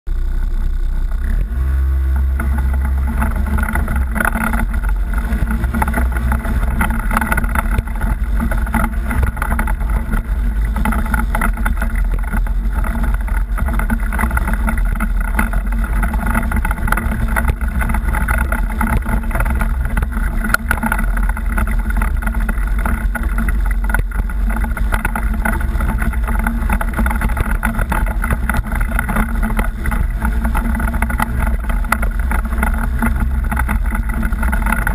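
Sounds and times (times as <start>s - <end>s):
vehicle engine rumbling: 0.0s - 34.9s
vehicle knocking over rocks: 2.1s - 34.9s.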